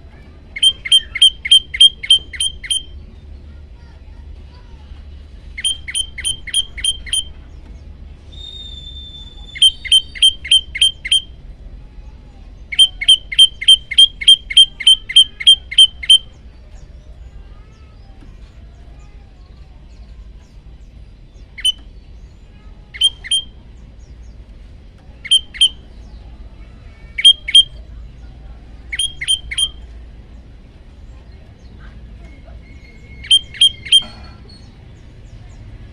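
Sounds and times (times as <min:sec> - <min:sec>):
songbird chip notes: 0:00.5 - 0:03.4, 0:05.5 - 0:11.4, 0:12.6 - 0:17.9, 0:19.9 - 0:24.4, 0:25.0 - 0:35.6.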